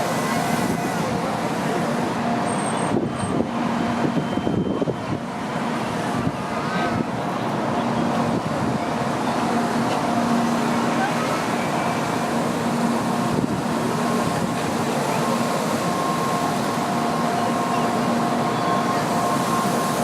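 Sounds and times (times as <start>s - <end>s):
train rumbling with hum: 0.0s - 20.0s.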